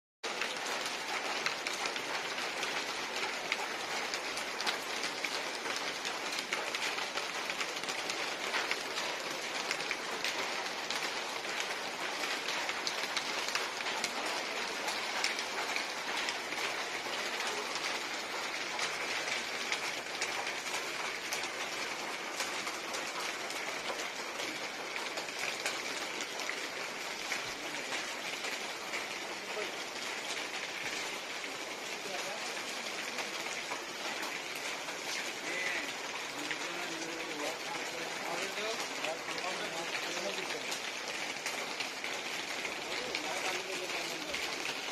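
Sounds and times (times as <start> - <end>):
heavy rain falling: 0.2 - 44.9.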